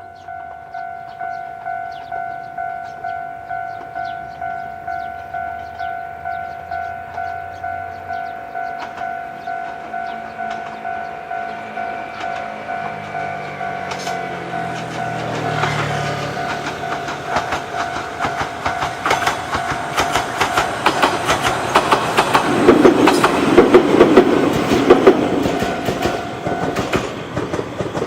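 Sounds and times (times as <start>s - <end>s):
electric train hum: 0.0s - 28.0s
level-crossing warning bell dinging: 0.0s - 28.0s.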